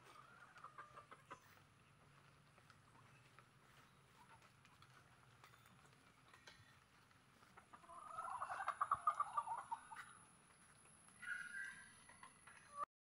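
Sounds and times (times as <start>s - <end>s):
chicken clucking: 0.0s - 12.9s.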